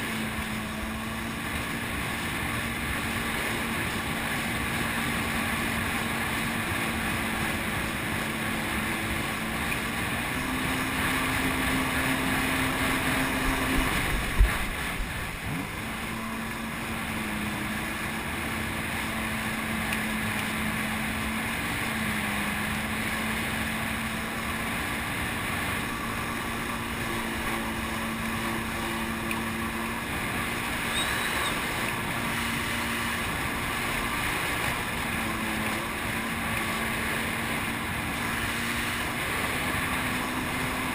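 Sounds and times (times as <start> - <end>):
jet ski engine running: 0.0 - 40.9
wind: 0.0 - 40.9.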